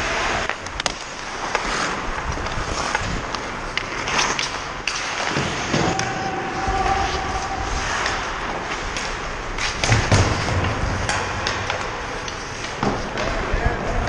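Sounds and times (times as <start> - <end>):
skate blades scraping ice: 0.0 - 14.0
sticks and puck clacking: 0.0 - 14.0.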